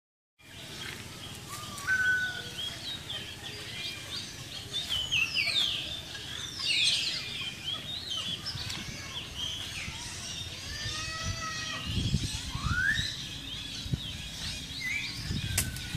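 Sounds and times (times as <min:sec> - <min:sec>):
birds chirping and whistling: 0:00.4 - 0:15.9.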